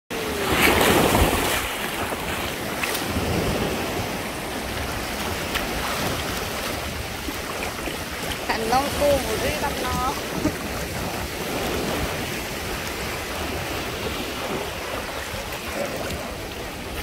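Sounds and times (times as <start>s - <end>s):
small waves washing onto beach: 0.1s - 17.0s
wind buffeting microphone: 0.1s - 17.0s
shallow water sloshing: 0.2s - 17.0s.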